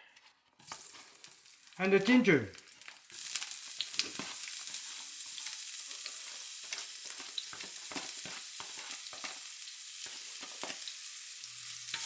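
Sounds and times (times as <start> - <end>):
garlic sizzling in oil: 0.6 - 12.0.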